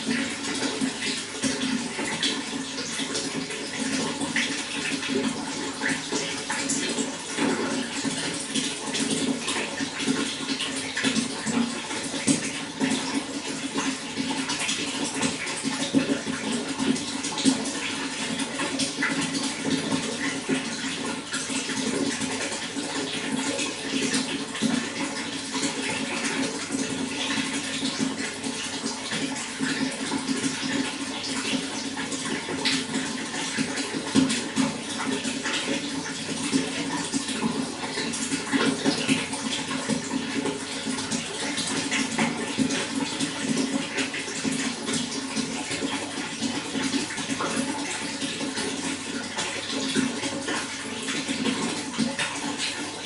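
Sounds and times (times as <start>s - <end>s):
running water splashing: 0.0s - 53.0s.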